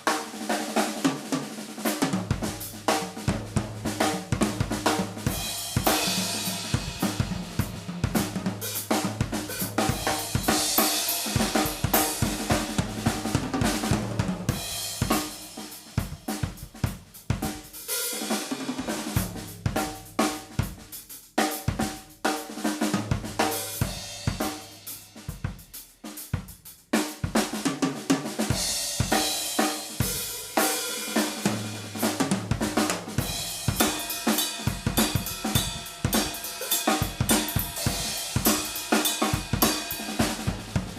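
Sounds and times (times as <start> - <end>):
drum kit groove: 0.0 - 40.9.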